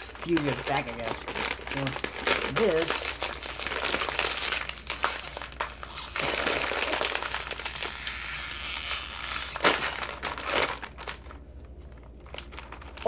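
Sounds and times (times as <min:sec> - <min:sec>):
plastic bag crackling: 0:00.0 - 0:13.0.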